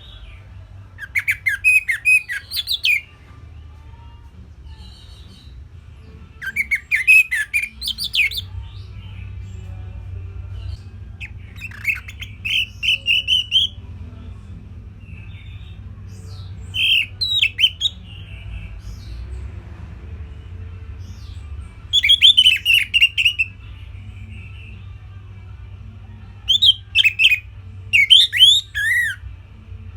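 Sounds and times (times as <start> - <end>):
thrush singing: 0.0 - 3.6, 4.2 - 29.9.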